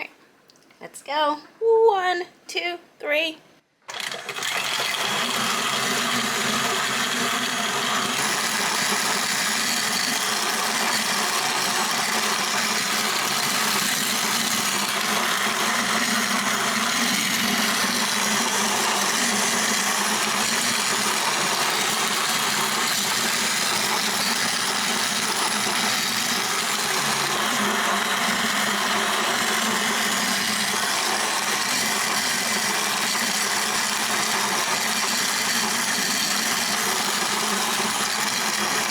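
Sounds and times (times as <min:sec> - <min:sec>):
grain mill grinding corn: 0:03.9 - 0:38.9
stand mixer motor: 0:03.9 - 0:38.9.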